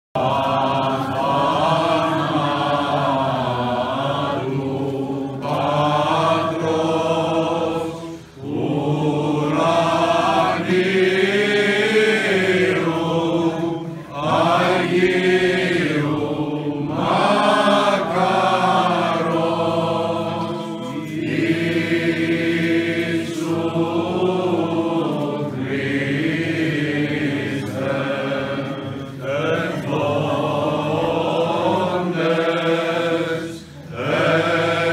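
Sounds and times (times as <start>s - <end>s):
men chanting a hymn: 0.2s - 34.9s.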